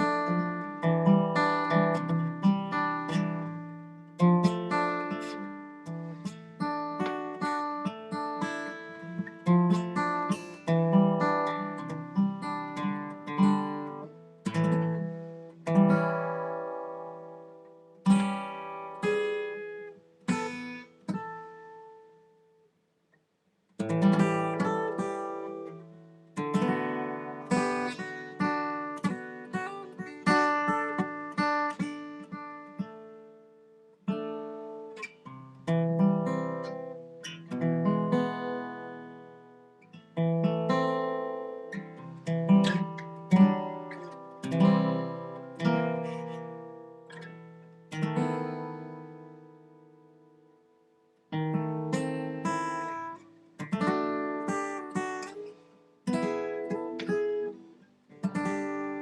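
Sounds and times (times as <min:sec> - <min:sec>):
guitar chords and strumming: 0:00.0 - 0:22.7, 0:23.8 - 0:59.0.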